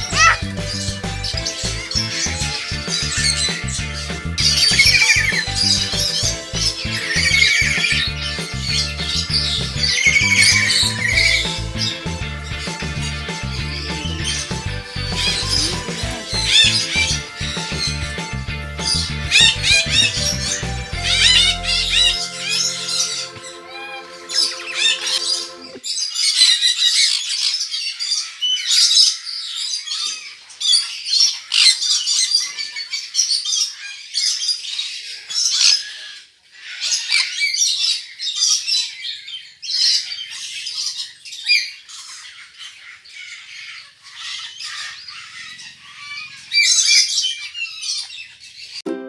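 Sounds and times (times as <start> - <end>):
birds squawking and chirping: 0.0 - 48.8.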